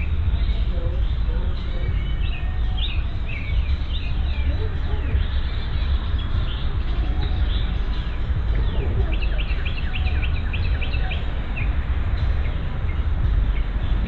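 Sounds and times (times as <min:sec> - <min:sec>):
bird calls: 0:00.0 - 0:14.0
low steady rumble: 0:00.0 - 0:14.0.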